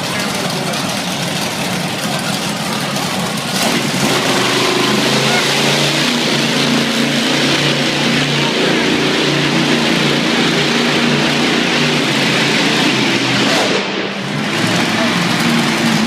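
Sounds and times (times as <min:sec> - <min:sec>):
monster truck engine running: 0:00.0 - 0:16.0.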